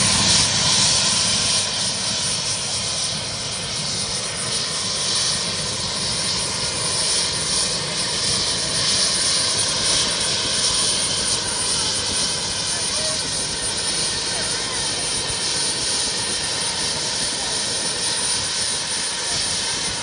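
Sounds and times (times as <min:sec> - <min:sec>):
helicopter running: 0:00.0 - 0:20.0.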